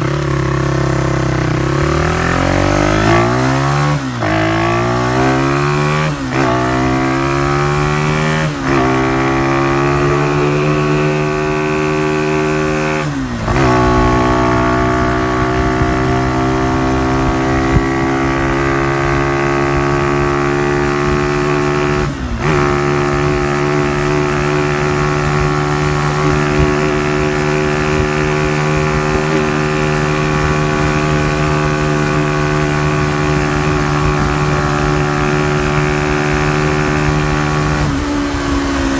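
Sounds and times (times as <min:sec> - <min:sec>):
small motorcycle engine running: 0:00.0 - 0:38.9.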